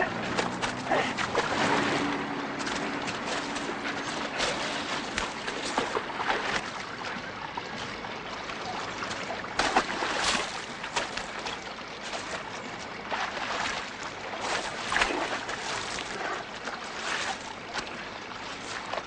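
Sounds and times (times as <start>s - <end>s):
hands splashing water in basin: 0.0s - 6.8s, 9.0s - 19.0s
fountain trickling: 2.1s - 19.0s.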